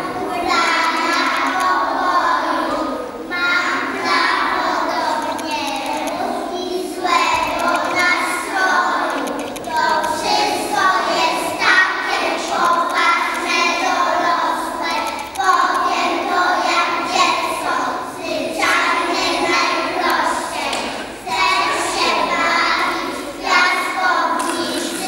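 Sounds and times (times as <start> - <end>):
young children singing in chorus: 0.0 - 25.0.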